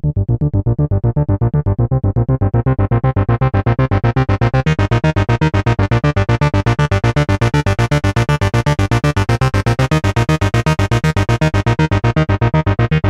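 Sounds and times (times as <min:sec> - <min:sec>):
synthesizer bass pattern: 0:00.0 - 0:13.0.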